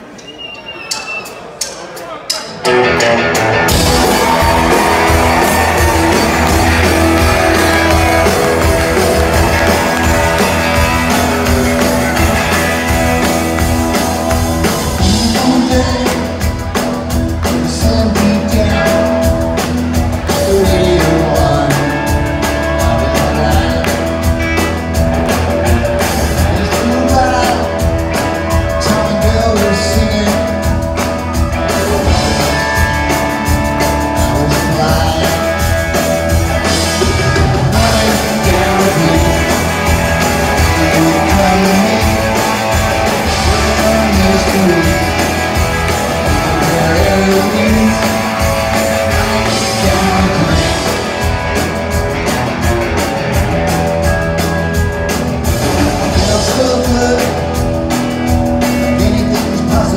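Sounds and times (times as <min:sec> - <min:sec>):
drum kit: 0:00.9 - 0:59.9
electric guitars: 0:02.6 - 0:59.9
person singing: 0:02.7 - 0:24.8, 0:26.3 - 0:51.5, 0:55.6 - 0:57.8, 0:58.7 - 0:59.9.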